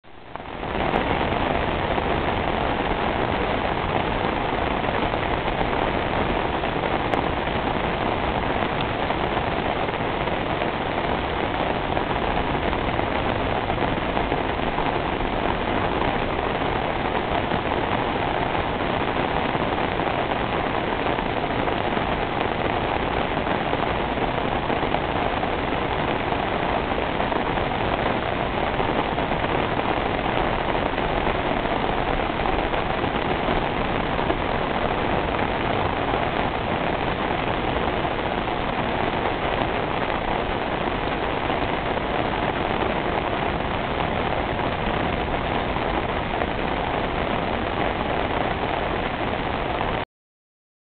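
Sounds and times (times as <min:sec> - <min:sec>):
heavy rain on standing water: 0:00.0 - 0:50.1.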